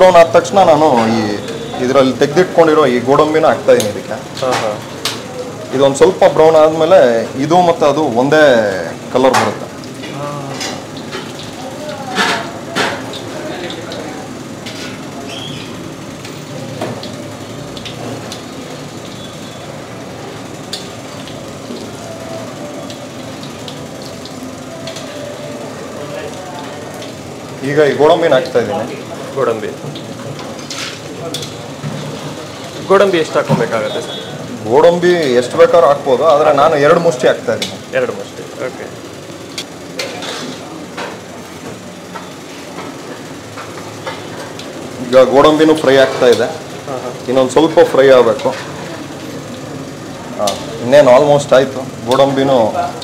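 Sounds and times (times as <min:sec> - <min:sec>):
oil sizzling in a pan: 0:00.0 - 0:53.0.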